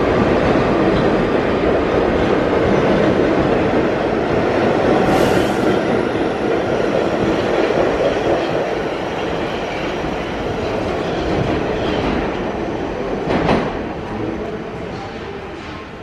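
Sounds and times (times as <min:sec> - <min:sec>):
subway train wheels on rails: 0:00.0 - 0:16.0.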